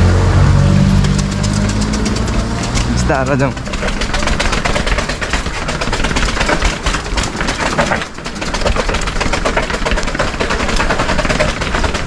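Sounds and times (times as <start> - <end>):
bike rattling down stairs: 0.0 - 12.0.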